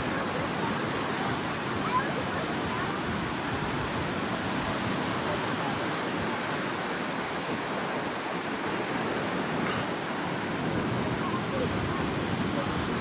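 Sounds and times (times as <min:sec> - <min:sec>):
sea surf on beach: 0:00.0 - 0:13.0.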